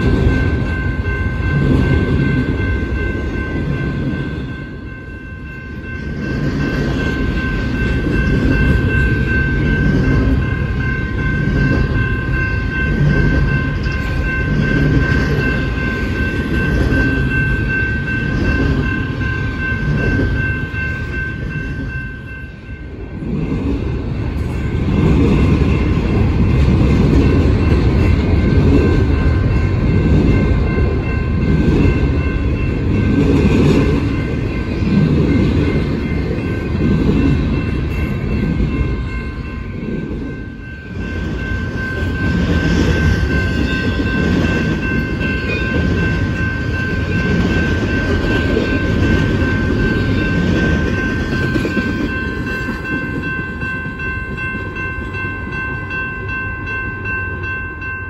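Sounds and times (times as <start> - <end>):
crossing bell ringing: 0.0 - 58.0
train wheels rumbling on rails: 0.0 - 58.0.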